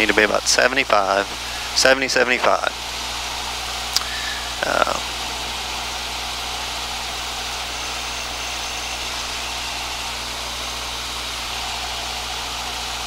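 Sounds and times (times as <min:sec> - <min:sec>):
airplane engine and propeller drone: 0:00.0 - 0:13.0.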